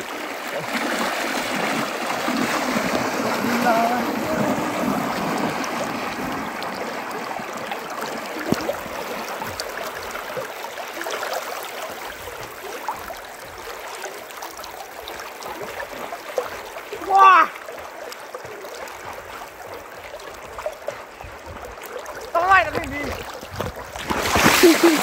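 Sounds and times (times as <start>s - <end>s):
floodwater rushing: 0.0s - 25.0s
splashing from wading: 0.0s - 25.0s.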